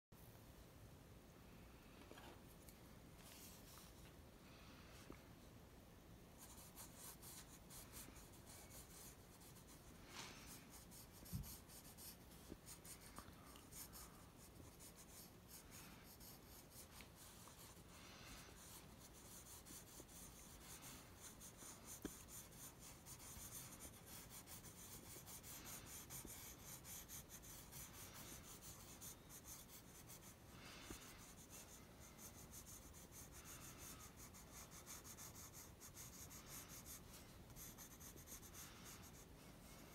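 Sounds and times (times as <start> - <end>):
pencil scribbling on paper: 6.4 - 39.3.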